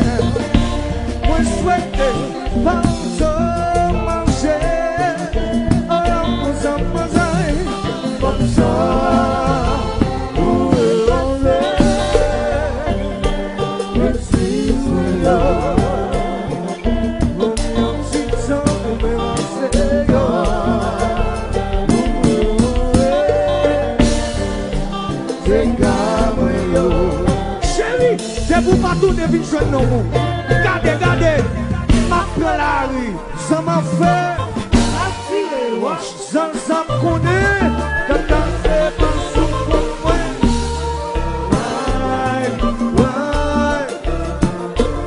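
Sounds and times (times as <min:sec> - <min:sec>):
live band playing: 0:00.0 - 0:45.0
person singing with vibrato: 0:00.0 - 0:45.0.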